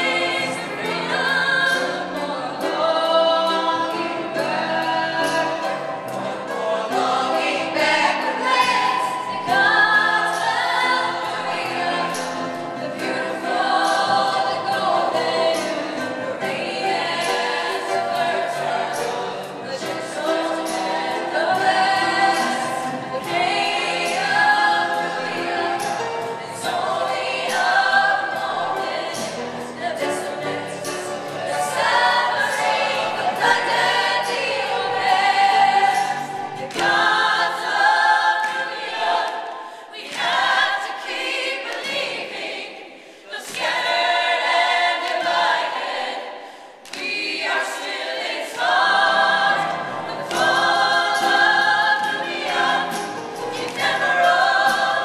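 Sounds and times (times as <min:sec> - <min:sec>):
chorus of young voices singing: 0:00.0 - 0:55.0.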